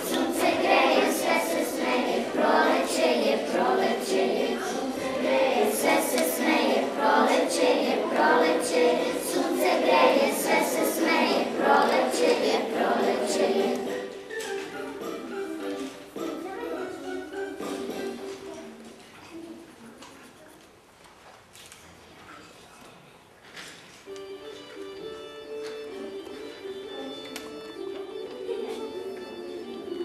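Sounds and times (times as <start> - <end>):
children's choir song over speakers: 0.0 - 18.9, 24.3 - 30.0.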